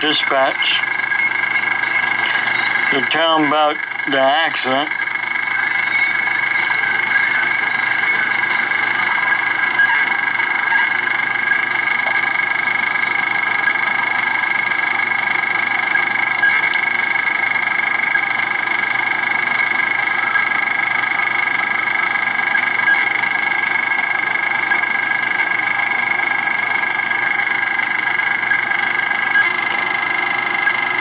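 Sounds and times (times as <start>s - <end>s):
vehicle engine idling: 0.0s - 29.3s
high-pitched whine and hiss: 0.0s - 31.0s.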